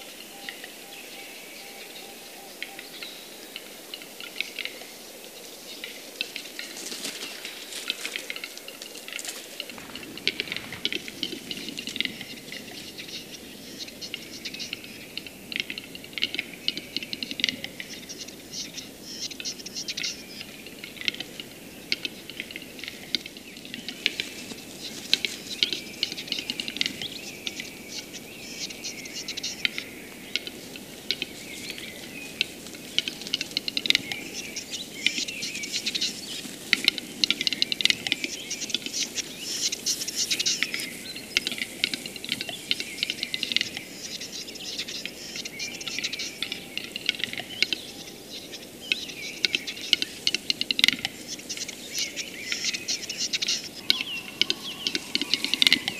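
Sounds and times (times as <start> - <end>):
capercaillie song of dry clicks: 5.8 - 13.4, 14.0 - 27.7, 29.4 - 55.9.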